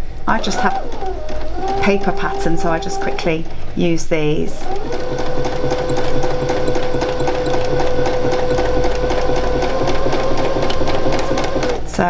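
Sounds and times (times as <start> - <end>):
sewing machine running: 0.0 - 12.0.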